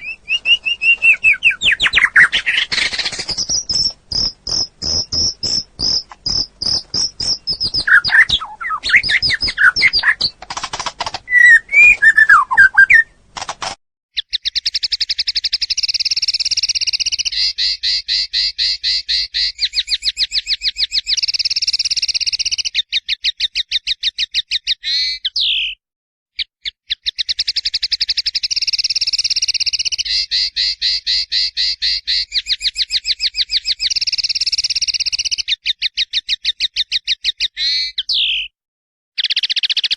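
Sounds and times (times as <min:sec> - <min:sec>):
songbird singing: 0:00.0 - 0:13.2, 0:14.2 - 0:23.4, 0:26.9 - 0:38.5.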